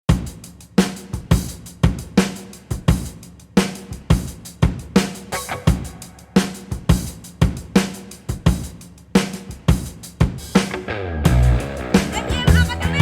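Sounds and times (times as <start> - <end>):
background music with drum beat: 0.0 - 13.0.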